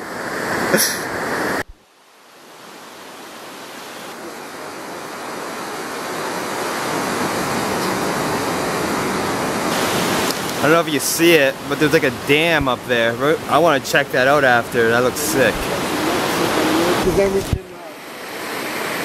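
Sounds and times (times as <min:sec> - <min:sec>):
waterfall and rapids rushing: 0:00.0 - 0:19.0.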